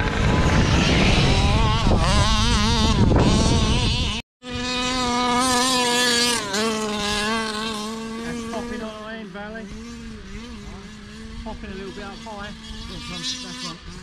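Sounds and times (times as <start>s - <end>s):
rc car motor buzzing: 0.0s - 14.0s.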